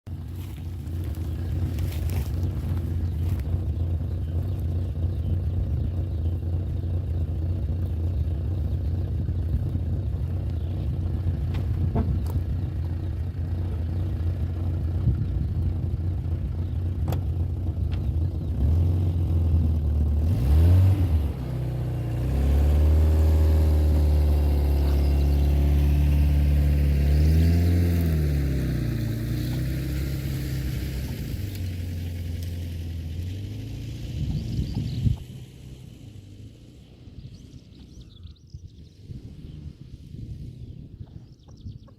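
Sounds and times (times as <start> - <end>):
vehicle engine rumbling and revving: 0.0 - 41.9.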